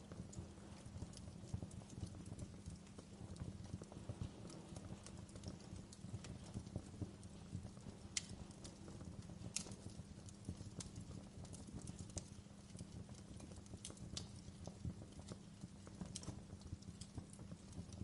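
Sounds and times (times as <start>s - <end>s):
campfire crackling and popping: 0.0s - 18.0s
low rumble of burning wood: 0.0s - 18.0s.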